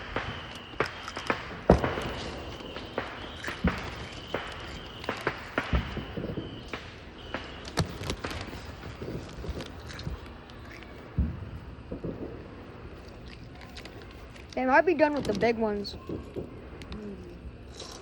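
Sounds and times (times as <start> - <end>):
fireworks booms: 0.0 - 18.0
fireworks popping and cracking: 0.0 - 18.0.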